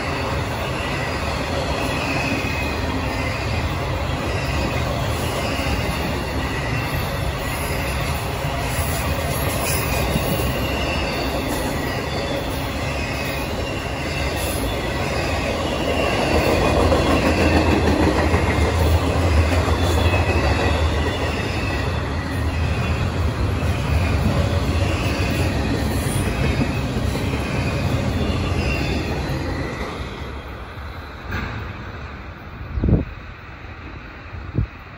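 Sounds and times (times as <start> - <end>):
wheel squeal: 0.0 - 18.0, 19.0 - 31.4
steel wheels rumbling on rails: 0.0 - 34.9.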